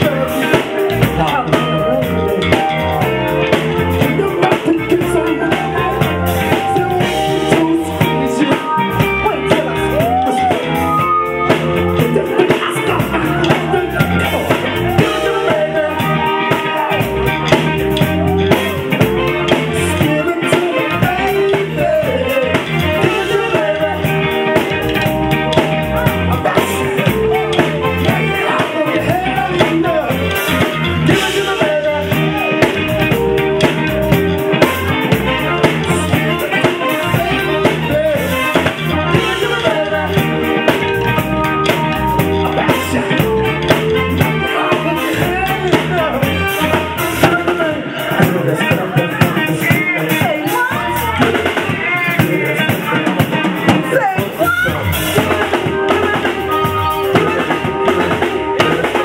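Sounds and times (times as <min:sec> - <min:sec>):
bass guitar: 0:00.0 - 0:59.0
drum kit beat: 0:00.0 - 0:59.0
electric guitar: 0:00.0 - 0:59.0
person singing: 0:00.0 - 0:59.0.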